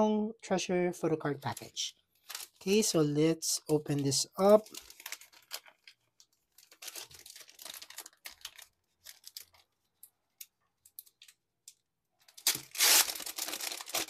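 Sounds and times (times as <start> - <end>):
packaging crinkling and tearing: 1.4 - 2.9, 3.7 - 14.0.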